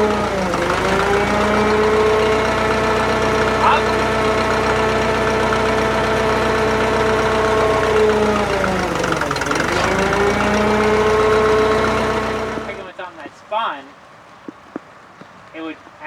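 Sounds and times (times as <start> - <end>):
crane engine running: 0.0 - 13.1.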